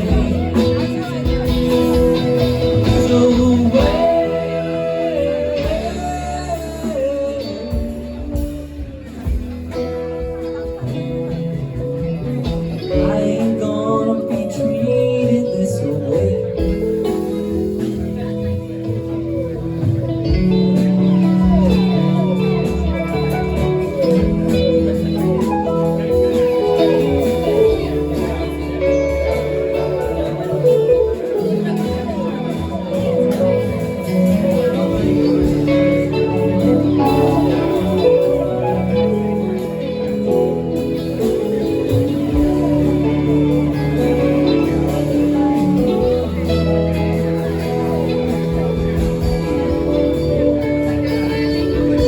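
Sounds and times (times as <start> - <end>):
bass guitar: 0.0 - 52.0
held lead melody line: 0.0 - 52.0
rhythm guitar: 0.0 - 52.0
rock band playing: 0.0 - 52.0.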